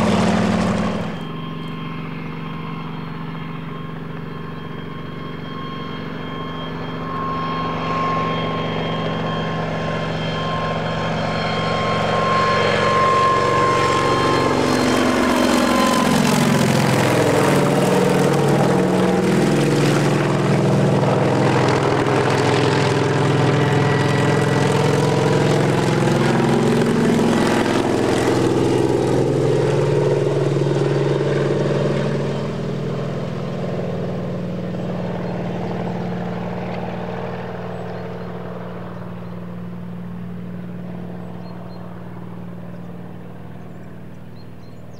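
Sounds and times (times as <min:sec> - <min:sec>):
helicopter passing: 0:00.0 - 0:44.9.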